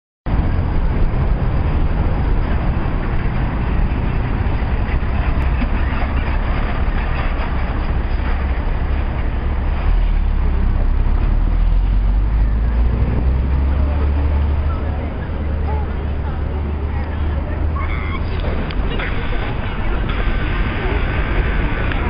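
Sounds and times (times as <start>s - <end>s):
diesel engines rumbling: 0.3s - 22.0s
road noise: 0.3s - 22.0s.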